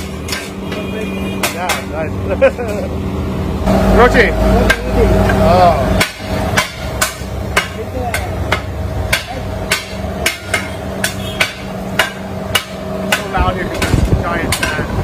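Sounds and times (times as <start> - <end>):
metal blades clanking on griddle: 0.0 - 2.9, 4.6 - 15.0
fan humming: 0.0 - 15.0.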